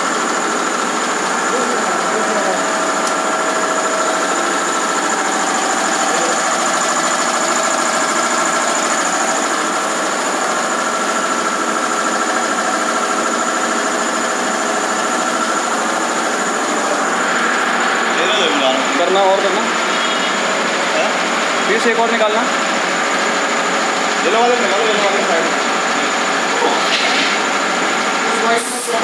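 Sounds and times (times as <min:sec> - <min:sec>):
constant high whine: 0:00.0 - 0:29.0
workshop machinery running: 0:00.0 - 0:29.0.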